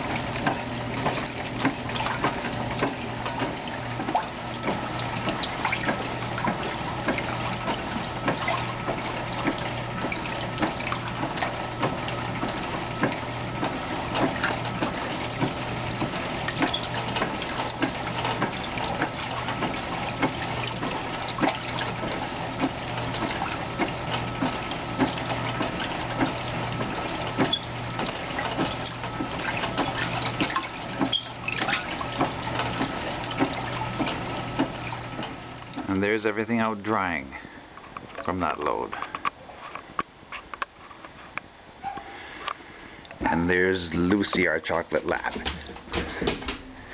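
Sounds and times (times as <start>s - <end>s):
water sloshing in washer tub: 0.0s - 46.9s.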